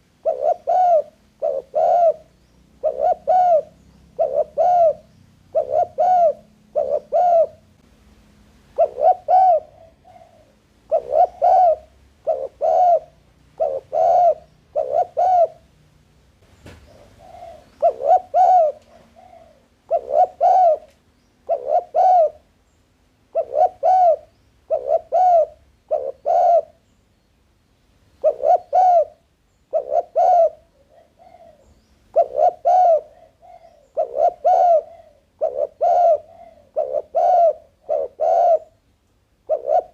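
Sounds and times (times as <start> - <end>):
dove cooing: 0.0 - 7.8, 8.7 - 15.7, 16.7 - 22.5, 23.3 - 26.9, 28.2 - 38.8, 39.4 - 39.9.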